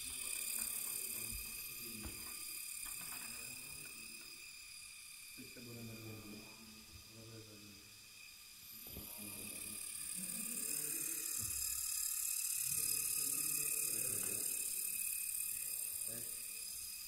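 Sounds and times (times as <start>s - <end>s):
electric motor and propeller whine: 0.0s - 17.0s.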